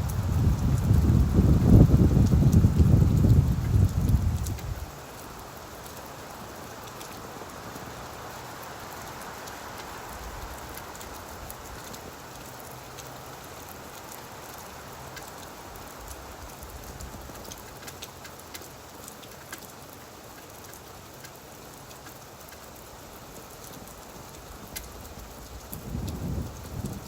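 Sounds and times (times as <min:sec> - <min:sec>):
rain falling on leaves: 0:00.0 - 0:27.0.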